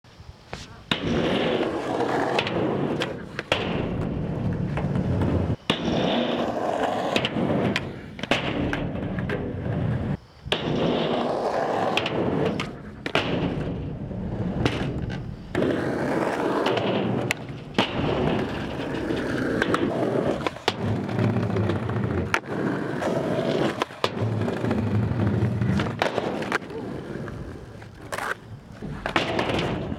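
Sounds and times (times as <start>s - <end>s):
skateboard wheels rolling on concrete: 0.1s - 29.9s
skateboard popping and landing clacks: 0.5s - 29.9s.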